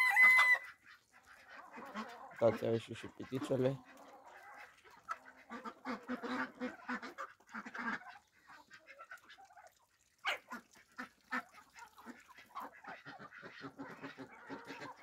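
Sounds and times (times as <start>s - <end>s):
chickens clucking and squawking: 0.0s - 15.0s.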